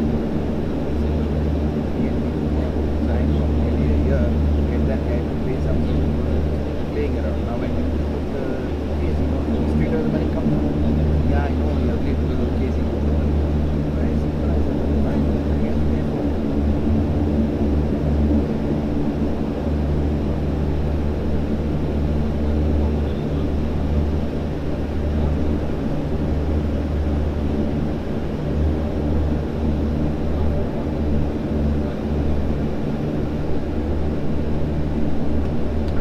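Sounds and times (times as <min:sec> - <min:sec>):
propeller engine drone: 0:00.0 - 0:36.0.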